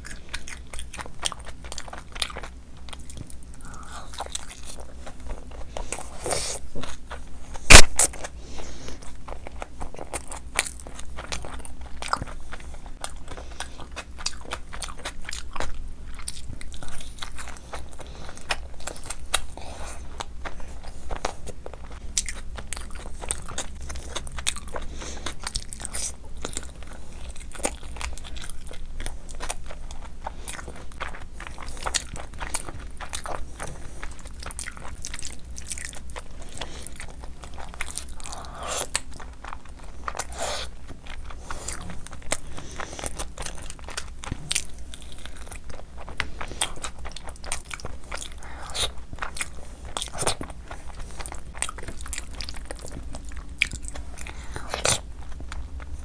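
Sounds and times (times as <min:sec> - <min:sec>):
chewing and mouth smacking: 0:00.0 - 0:56.0.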